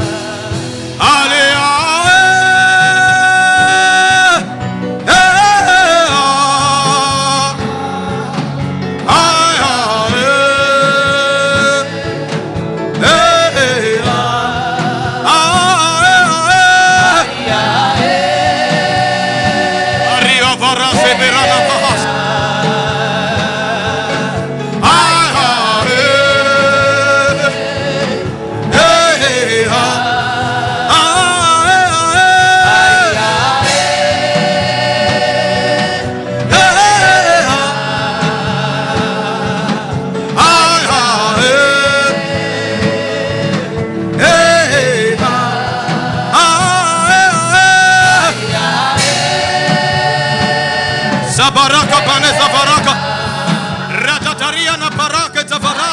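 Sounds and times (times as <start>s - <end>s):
instrumental accompaniment: 0.0s - 55.9s.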